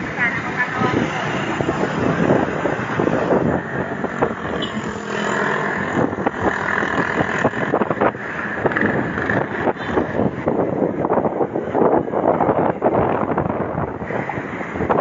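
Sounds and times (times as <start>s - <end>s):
passing road traffic: 0.0s - 15.0s
wind rushing over microphone: 0.0s - 15.0s.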